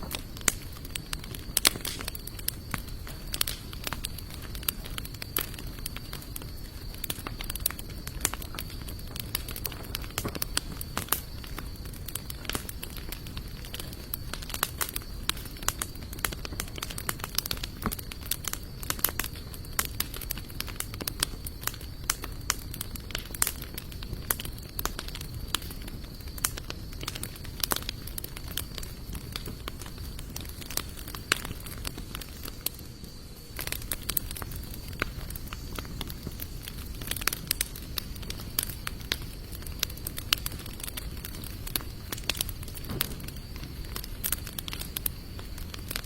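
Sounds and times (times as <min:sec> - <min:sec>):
low noise of flames: 0:00.0 - 0:46.0
wood fire crackling and popping: 0:00.0 - 0:46.0.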